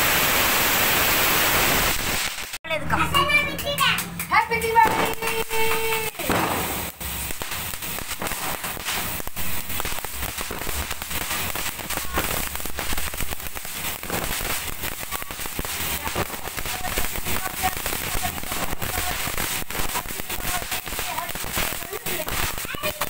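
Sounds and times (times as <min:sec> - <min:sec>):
firework hissing and crackling: 0:00.0 - 0:02.6, 0:03.2 - 0:23.0.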